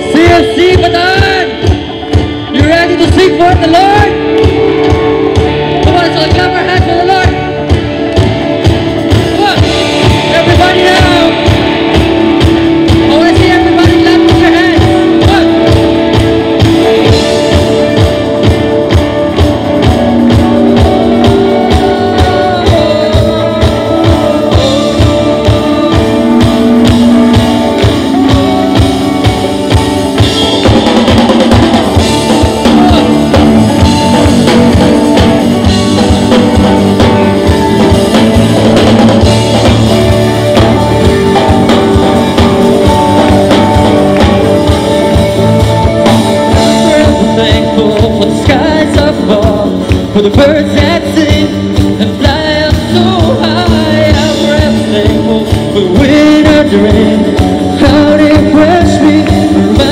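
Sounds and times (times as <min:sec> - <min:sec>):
drum kit beat: 0:00.0 - 0:59.9
strummed guitars: 0:00.0 - 0:59.9.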